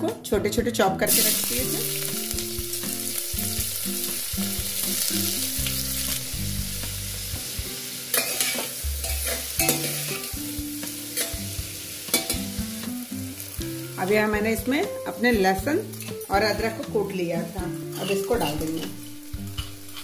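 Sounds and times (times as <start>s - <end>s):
onions sizzling in oil: 1.0s - 20.0s.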